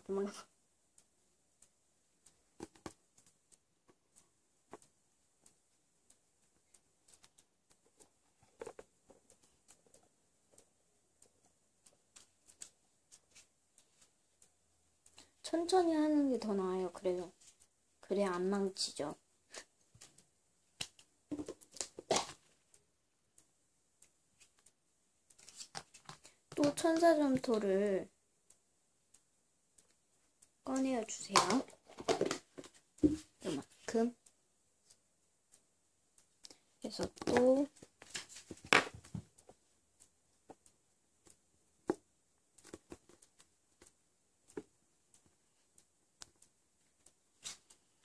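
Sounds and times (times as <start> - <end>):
quiet rustles and taps: 1.0 - 15.6, 16.3 - 17.8, 19.5 - 22.8, 23.4 - 27.7, 28.5 - 48.0.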